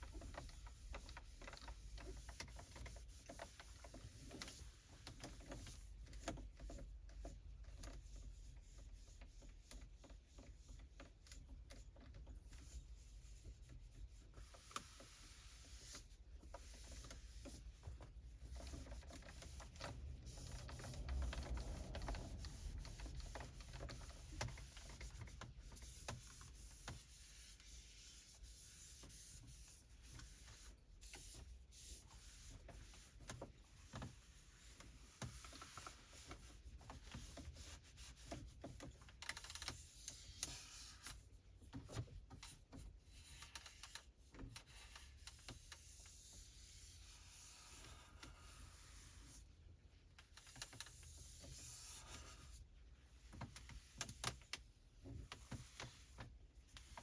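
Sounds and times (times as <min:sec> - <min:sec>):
cloth rubbing over surfaces: 0:07.3 - 0:57.0.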